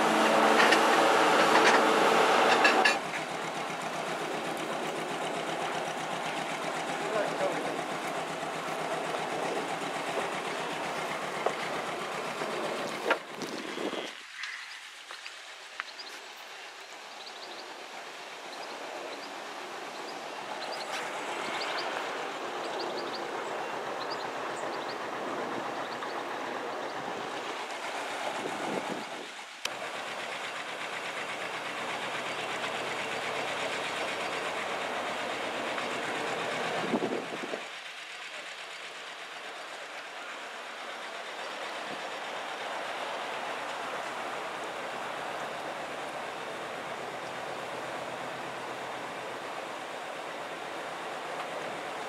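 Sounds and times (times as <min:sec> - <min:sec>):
boat engine chugging: 0:00.0 - 0:14.0, 0:17.8 - 0:52.0.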